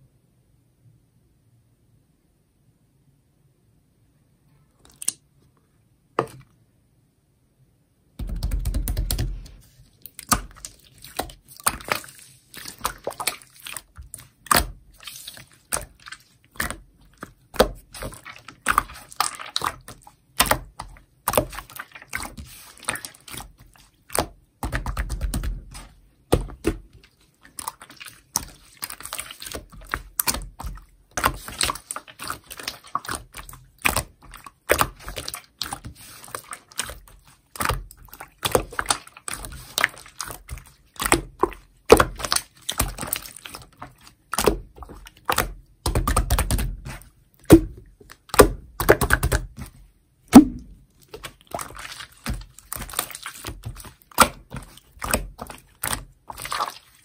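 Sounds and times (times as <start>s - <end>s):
slime squished by hand: 8.2s - 57.0s.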